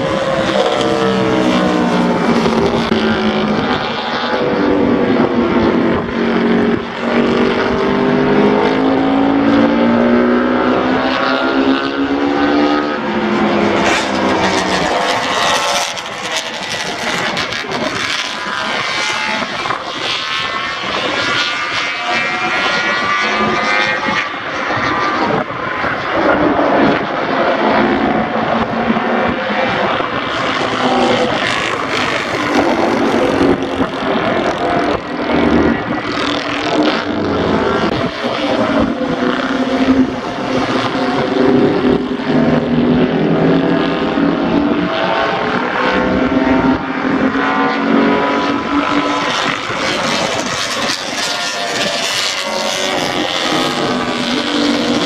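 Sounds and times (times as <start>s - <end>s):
racing motorcycles passing: 0.0s - 55.0s.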